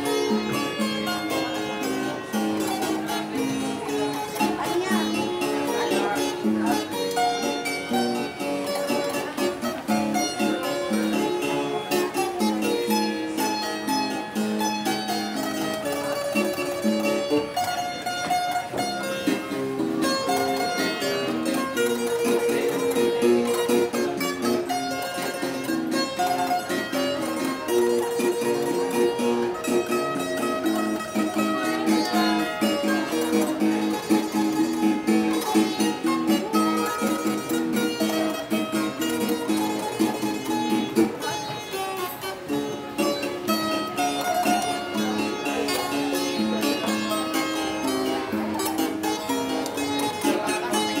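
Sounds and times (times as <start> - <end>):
harp playing: 0.0 - 51.0.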